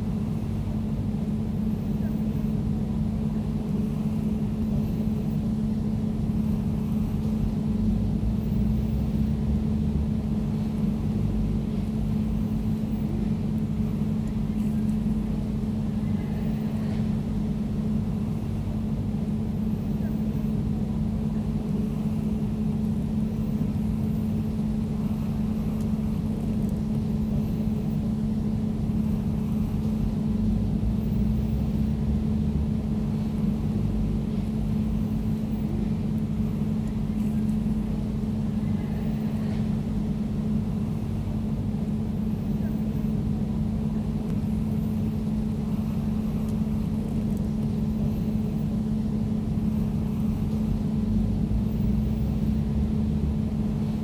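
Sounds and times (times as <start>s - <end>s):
air conditioner running: 0.0s - 54.0s.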